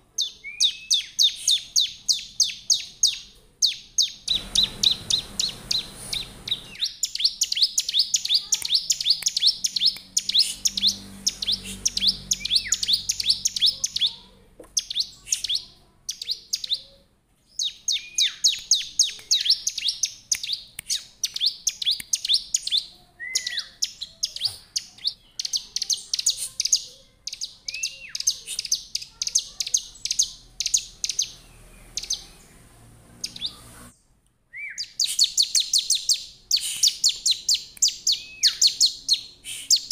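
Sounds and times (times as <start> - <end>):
bird singing rapid high chirps: 0.2 - 33.9, 34.6 - 39.9.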